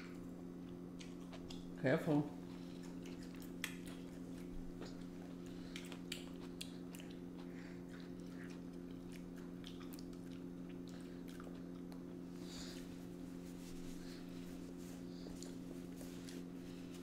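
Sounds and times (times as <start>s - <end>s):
steady low hum: 0.0s - 17.0s
chewing: 0.1s - 1.8s, 2.4s - 16.8s.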